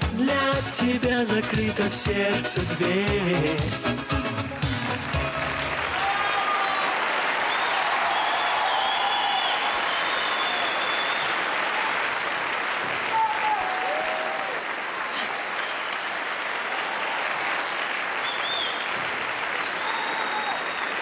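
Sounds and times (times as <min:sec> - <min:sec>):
audience applauding: 0:04.1 - 0:21.0.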